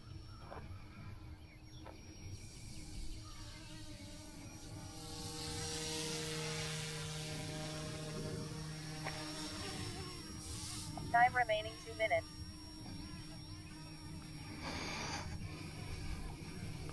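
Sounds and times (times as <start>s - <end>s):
rc helicopter motor and rotor whine: 0.0s - 16.9s.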